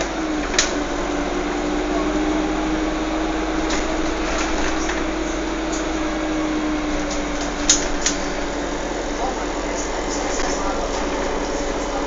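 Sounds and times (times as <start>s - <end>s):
vehicle running hum: 0.0s - 12.0s.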